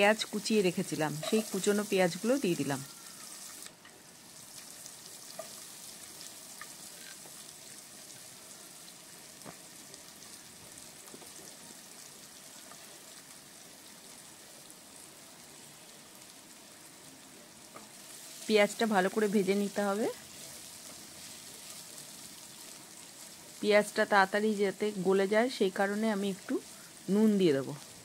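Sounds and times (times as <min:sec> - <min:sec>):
onions sizzling in oil: 0:00.0 - 0:28.0.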